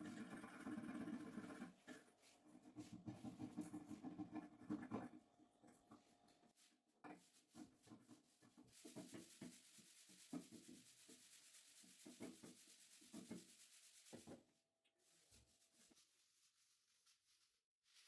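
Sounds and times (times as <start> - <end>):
faint rubbing and scraping: 0.0 - 18.0.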